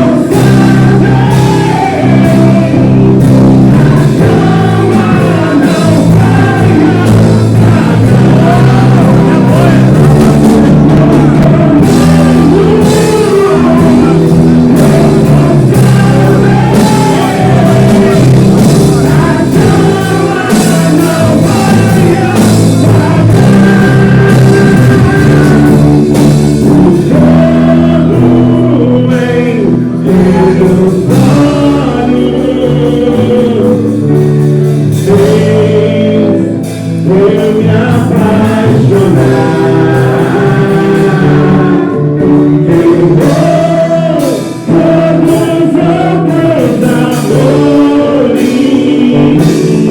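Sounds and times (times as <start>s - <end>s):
people singing: 0.0s - 49.9s
praise band playing: 0.0s - 49.9s.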